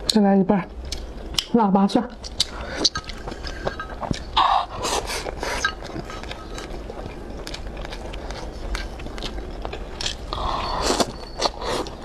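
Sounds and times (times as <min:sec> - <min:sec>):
chewing with crunches: 0:00.8 - 0:01.6, 0:02.2 - 0:12.0.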